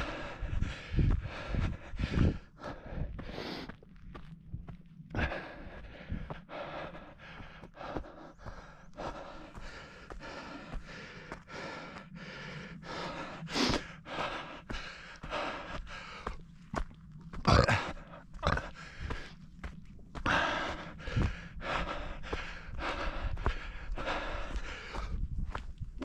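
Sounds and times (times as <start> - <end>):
person breathing hard: 0.0 - 26.0.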